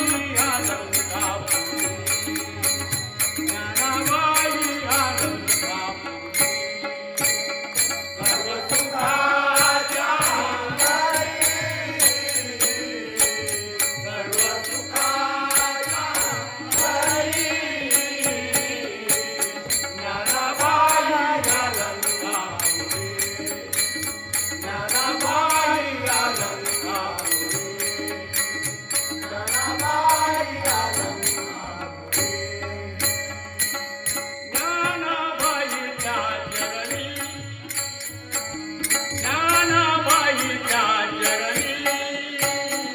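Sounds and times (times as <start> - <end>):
devotional singing: 0.0 - 2.2, 8.2 - 33.3, 34.6 - 37.8, 38.9 - 42.9.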